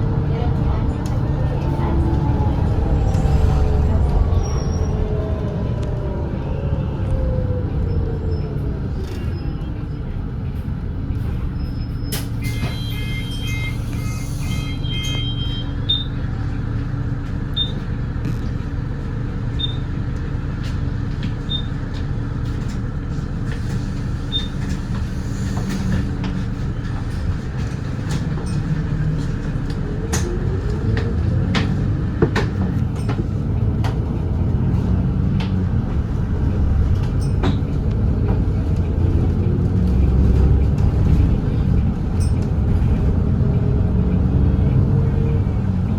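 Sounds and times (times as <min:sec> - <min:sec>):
diesel bus engine running: 0:00.0 - 0:45.9.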